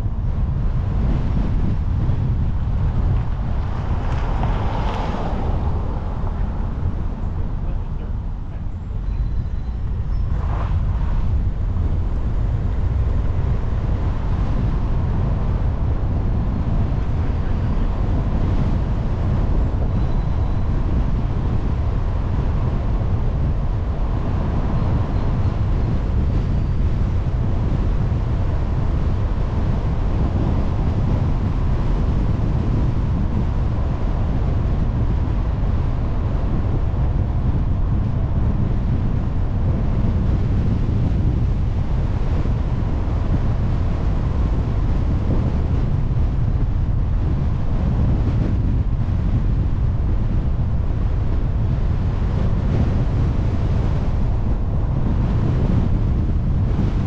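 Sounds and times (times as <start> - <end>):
car tyre and road noise: 0.0 - 57.0
wind rushing over microphone: 0.0 - 57.0.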